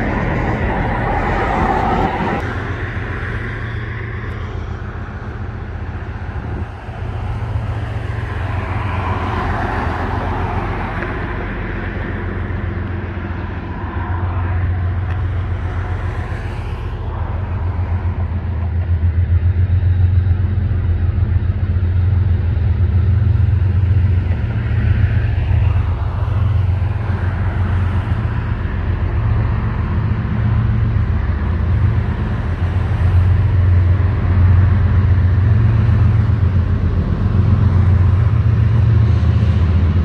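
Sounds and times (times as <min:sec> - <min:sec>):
freight train rumbling past: 0:00.0 - 0:40.0
wheels on rails: 0:00.0 - 0:40.0.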